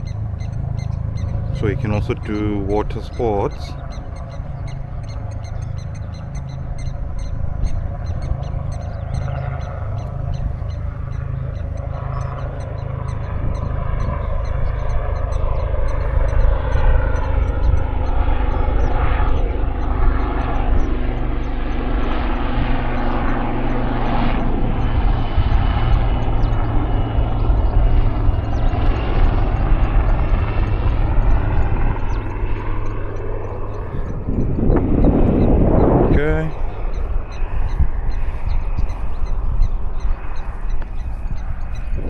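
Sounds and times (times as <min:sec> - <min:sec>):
distant engine drone: 0:00.0 - 0:42.0
wind rumble on microphone: 0:00.0 - 0:42.0.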